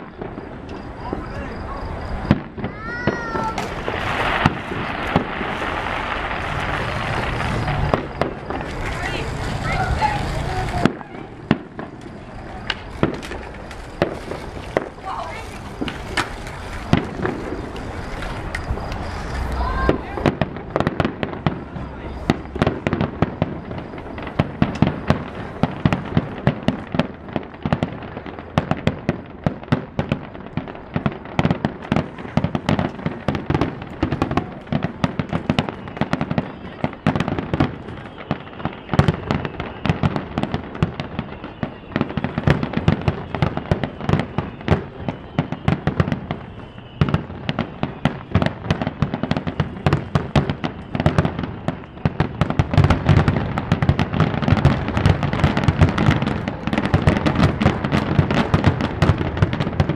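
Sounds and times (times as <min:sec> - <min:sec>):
fireworks bangs and cracks: 0:00.0 - 0:59.9.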